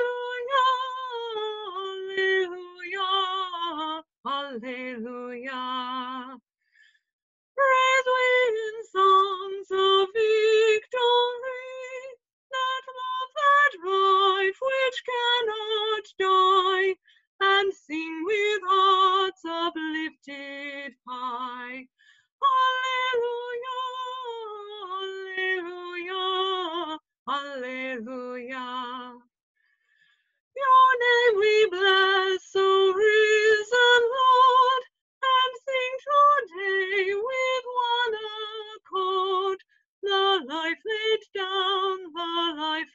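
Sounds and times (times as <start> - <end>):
woman singing unaccompanied: 0.0 - 6.4, 7.6 - 29.3, 30.6 - 42.9.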